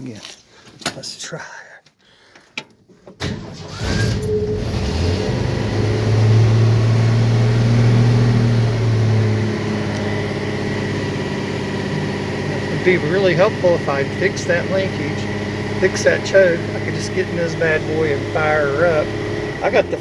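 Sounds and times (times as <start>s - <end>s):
pickup engine cranking and idling: 2.4s - 20.0s.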